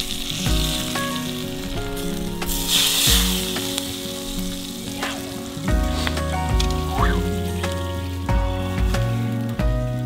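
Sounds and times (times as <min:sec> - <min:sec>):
background music: 0:00.0 - 0:10.0
cabbage sizzling in skillet: 0:00.0 - 0:10.0.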